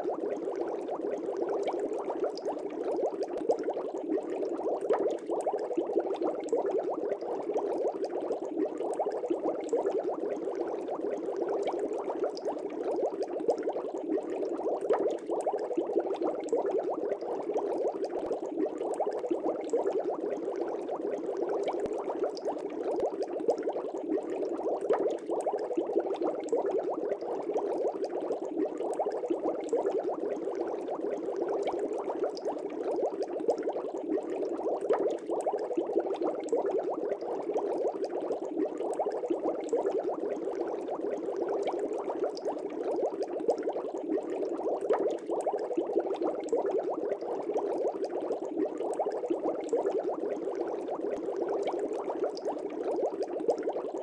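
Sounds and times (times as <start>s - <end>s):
air bubbles in fish tank: 0.0s - 54.0s.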